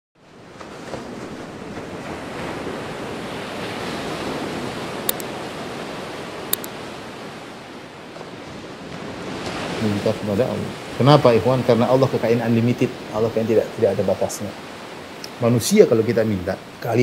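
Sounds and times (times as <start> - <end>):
ocean waves: 0.2 - 17.0
wind: 0.2 - 17.0.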